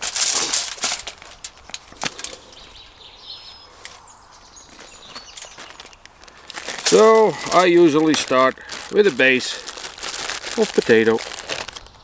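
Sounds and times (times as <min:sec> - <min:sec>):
aluminium foil crinkling: 0:00.0 - 0:02.8, 0:04.7 - 0:12.0.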